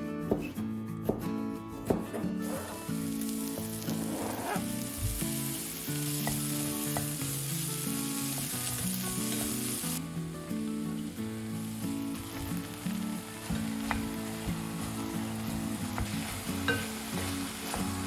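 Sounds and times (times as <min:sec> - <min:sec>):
food sizzling in a pan: 0:02.4 - 0:10.0, 0:10.6 - 0:18.0.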